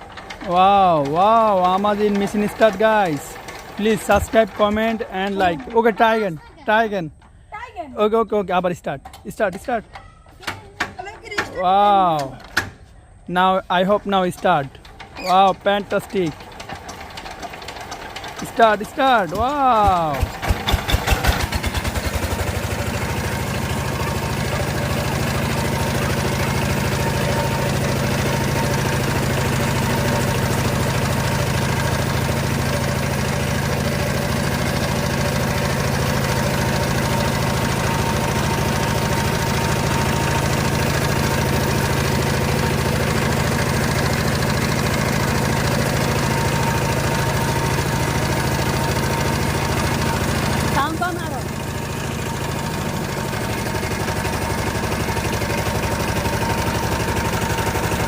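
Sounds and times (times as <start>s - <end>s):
diesel engine knocking: 0.0s - 6.3s, 14.4s - 58.0s.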